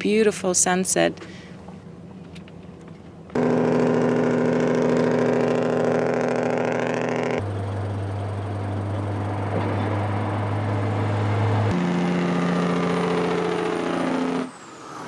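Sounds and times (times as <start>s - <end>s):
vehicle engines in traffic: 1.0s - 15.0s.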